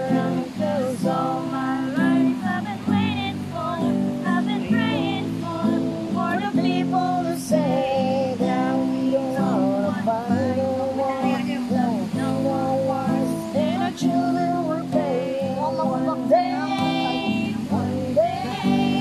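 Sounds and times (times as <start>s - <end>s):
acoustic guitar: 0.0s - 19.0s
women singing together: 0.0s - 19.0s.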